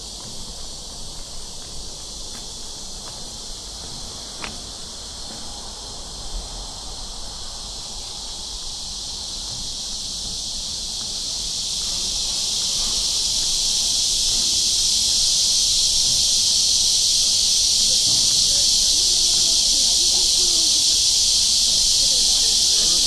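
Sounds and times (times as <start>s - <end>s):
cicadas chorus: 0.0s - 23.0s.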